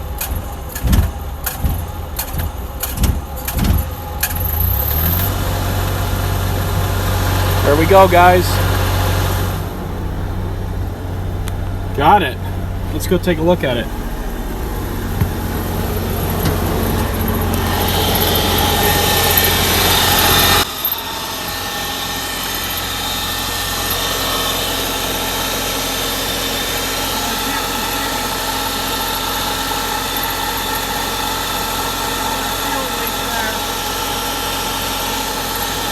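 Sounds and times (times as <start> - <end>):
diesel generator running: 0.0 - 35.9.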